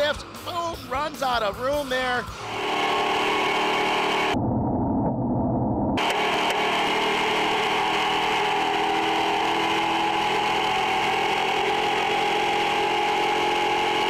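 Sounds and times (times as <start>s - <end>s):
truck engine running at speed: 1.8s - 14.0s.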